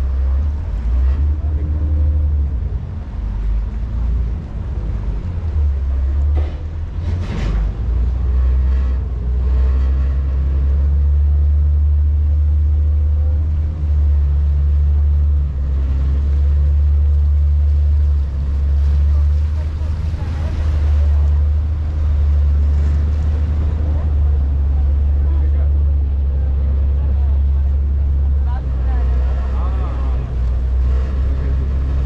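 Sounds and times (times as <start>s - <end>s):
boat engine rumble: 0.0s - 32.0s.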